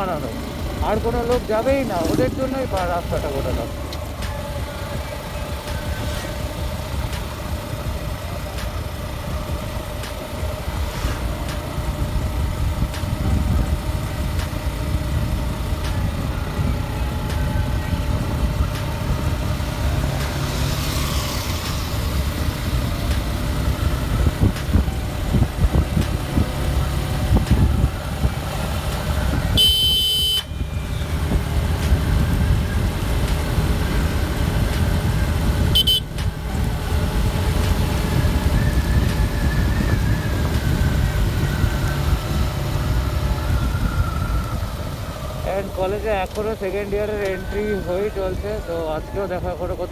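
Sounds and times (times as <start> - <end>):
motorcycle engine running: 0.0 - 49.9
road and wind noise: 0.0 - 49.9.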